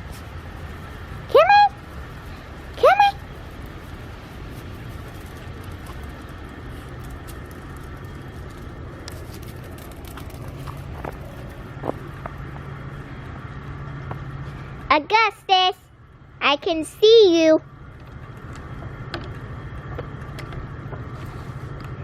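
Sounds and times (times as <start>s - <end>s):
low hum: 0.0s - 22.0s
outdoor rumble: 0.0s - 22.0s.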